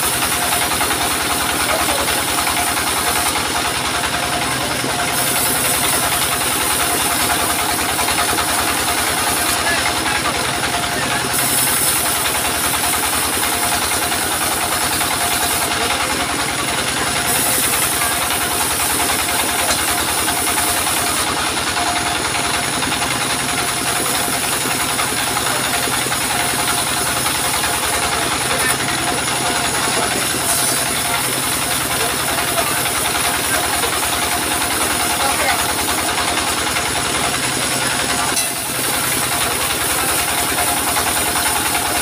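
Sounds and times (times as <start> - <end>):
circular saw cutting wood: 0.0 - 42.0
diesel engine chugging: 0.0 - 42.0.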